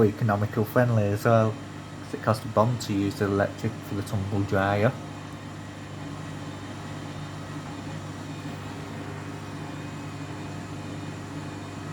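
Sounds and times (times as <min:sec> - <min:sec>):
washing machine spinning: 0:00.0 - 0:11.9.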